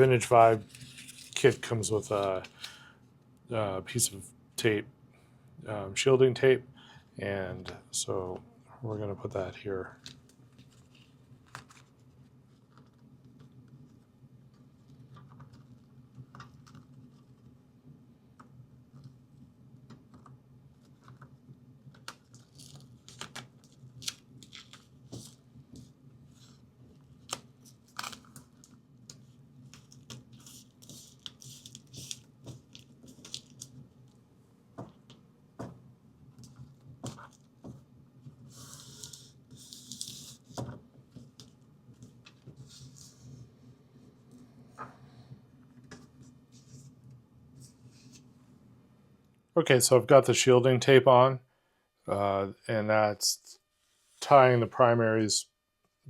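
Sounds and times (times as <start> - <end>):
low steady hum: 0.0 - 55.6.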